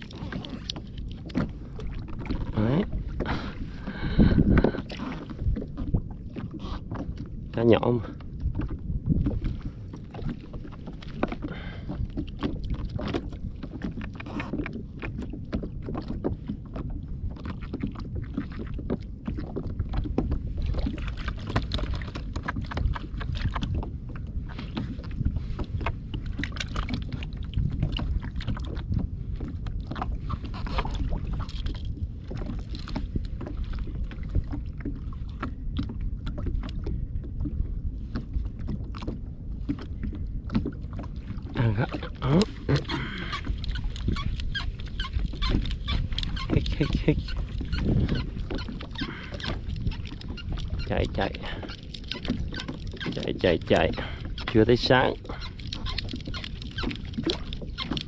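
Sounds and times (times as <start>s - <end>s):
water lapping against kayak hull: 0.0s - 58.0s
wind rumbling on microphone: 0.0s - 58.0s.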